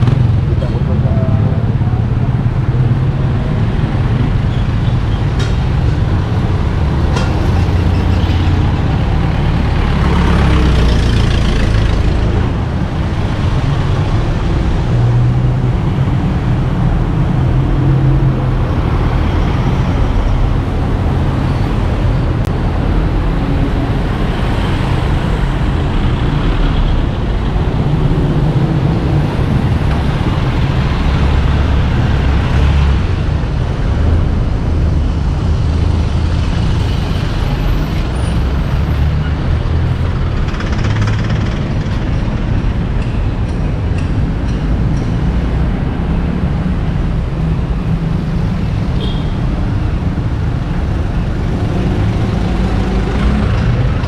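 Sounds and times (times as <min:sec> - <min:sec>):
heavy vehicles passing: 0:00.0 - 0:54.0
road traffic rumble: 0:00.0 - 0:54.0.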